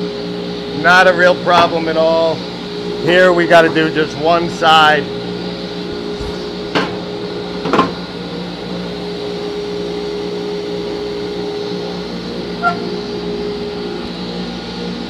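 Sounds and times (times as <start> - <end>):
table saw and blower humming: 0.0 - 15.0.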